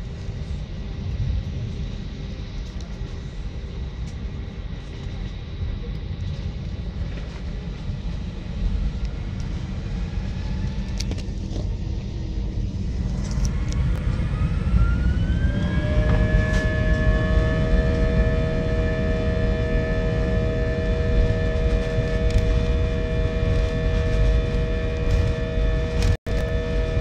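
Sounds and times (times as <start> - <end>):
jet engines spooling up: 0.0 - 27.0
rising engine whine: 0.0 - 27.0.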